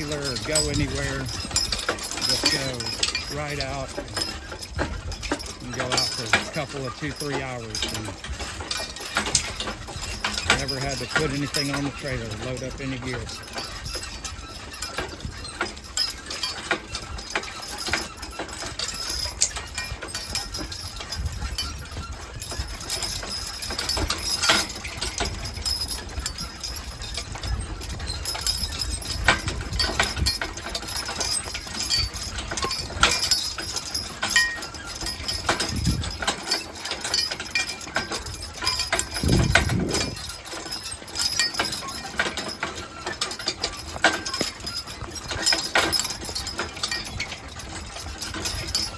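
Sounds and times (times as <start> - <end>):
cart rattling: 0.0 - 48.9
harness jingling: 0.0 - 48.9
horse hooves clopping: 0.0 - 48.9.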